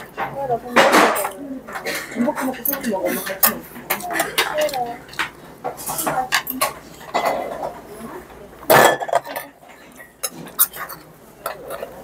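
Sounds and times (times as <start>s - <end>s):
spoon and chopsticks clinking on bowls: 0.0s - 7.8s, 8.7s - 12.0s
dishes clattering: 0.0s - 7.9s, 8.6s - 12.0s.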